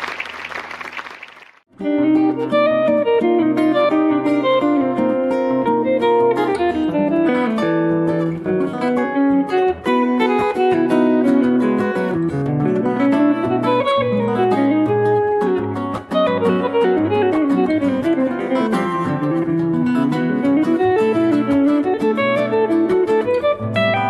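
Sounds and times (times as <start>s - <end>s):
acoustic guitar music: 1.8s - 24.0s.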